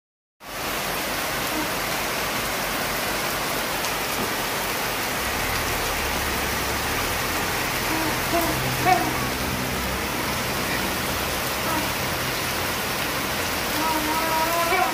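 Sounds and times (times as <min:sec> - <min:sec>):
heavy rain pouring: 0:00.4 - 0:14.9.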